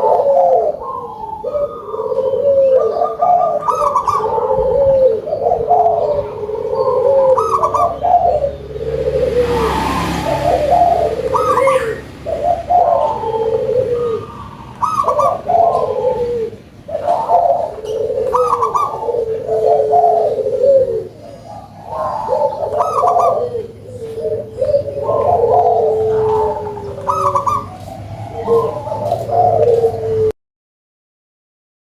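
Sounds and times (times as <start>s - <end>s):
dove cooing: 0.0s - 30.3s.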